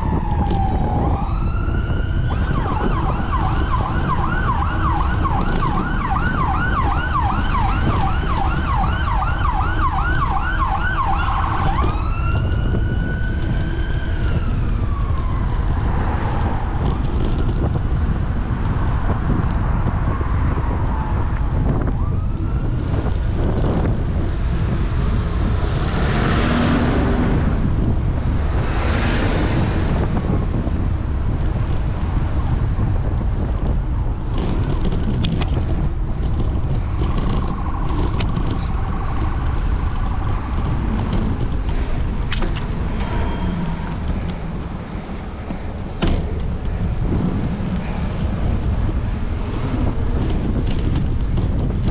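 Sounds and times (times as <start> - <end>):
emergency vehicle siren: 0.0 - 51.9
passing vehicle: 0.0 - 51.9
road traffic: 0.0 - 51.9
wind on microphone: 0.0 - 51.9.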